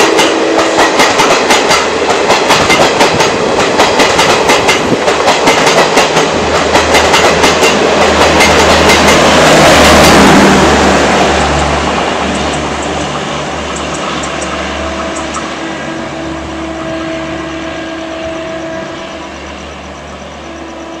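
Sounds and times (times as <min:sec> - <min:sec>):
train rushing past: 0:00.0 - 0:21.0
train wheels rumbling on rails: 0:00.0 - 0:21.0.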